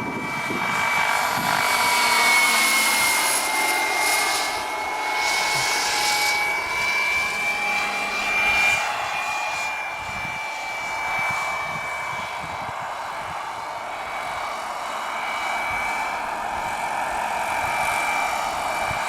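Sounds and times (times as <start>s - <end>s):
gas turbine high whine: 0.0s - 19.0s
rotor noise: 0.0s - 19.0s.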